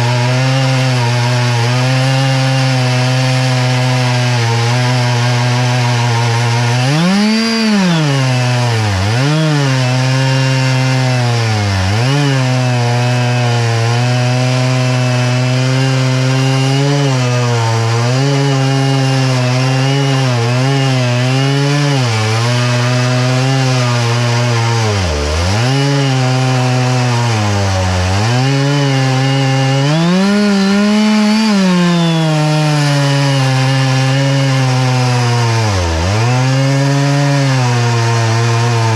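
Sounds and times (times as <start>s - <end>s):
chainsaw cutting through log: 0.0s - 38.9s.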